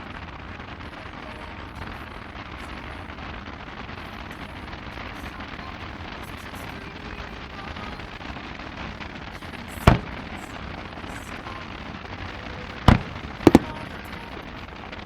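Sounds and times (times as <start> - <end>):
firework bang: 0.0 - 14.8
steady background hiss: 0.0 - 15.0.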